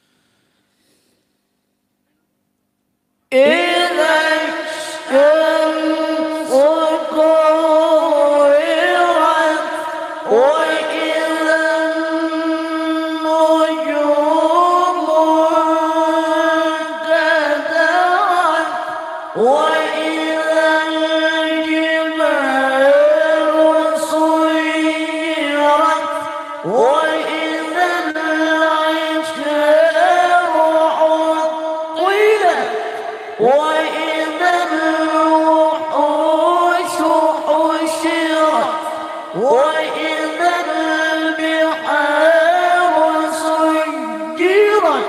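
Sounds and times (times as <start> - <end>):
man reciting melodically into microphone: 3.3 - 45.0.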